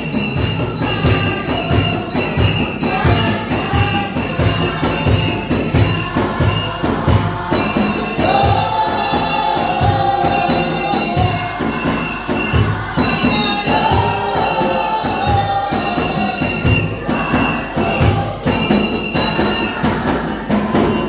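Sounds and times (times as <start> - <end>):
congregation singing: 0.0 - 21.0
shaken percussion: 0.0 - 21.0.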